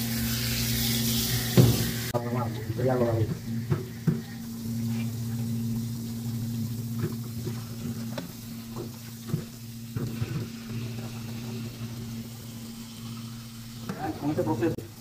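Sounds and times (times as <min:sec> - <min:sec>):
steady low hum: 0:00.0 - 0:15.0
tap water pouring into bowl: 0:01.5 - 0:14.1.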